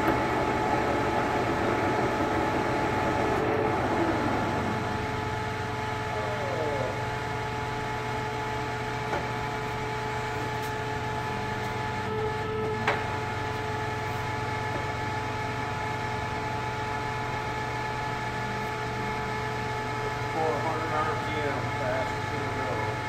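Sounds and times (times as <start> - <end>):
lathe humming: 0.0 - 23.0.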